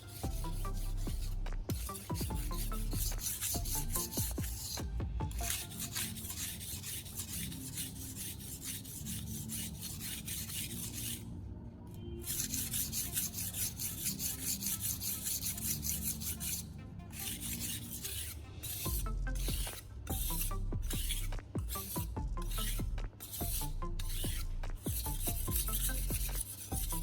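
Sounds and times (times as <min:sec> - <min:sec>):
knife scraping on whetstone: 0:00.0 - 0:11.3, 0:12.2 - 0:27.0.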